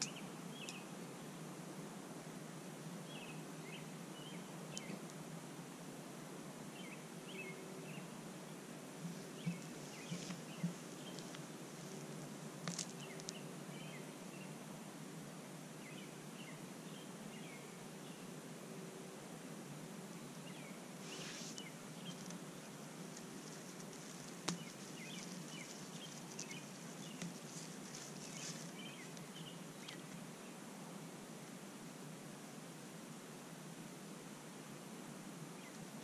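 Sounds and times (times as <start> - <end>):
steady hiss and low hum: 0.0 - 36.0.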